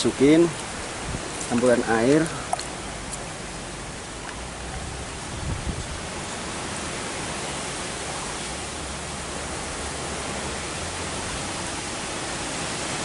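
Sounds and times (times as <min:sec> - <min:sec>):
strong wind blowing: 0:00.0 - 0:13.0
wind gust buffeting microphone: 0:00.0 - 0:13.0.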